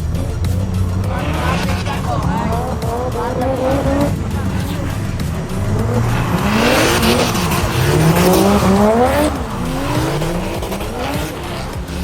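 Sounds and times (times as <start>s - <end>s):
car engine revving: 0.0s - 12.0s
tyre noise: 0.0s - 12.0s.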